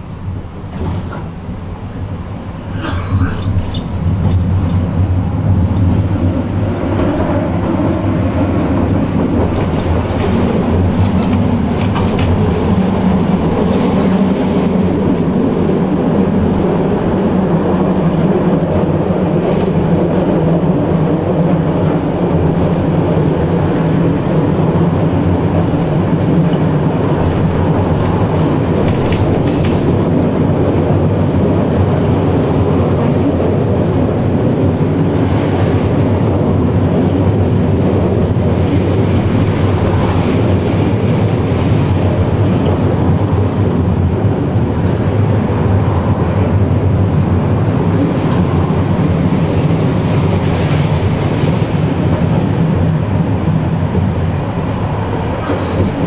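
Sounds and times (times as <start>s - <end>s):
tram wheels rumbling on rails: 0.0s - 56.0s.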